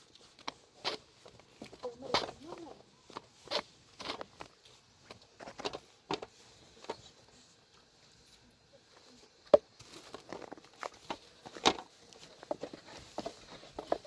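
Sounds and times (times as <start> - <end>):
faint rustling: 0.0 - 14.0.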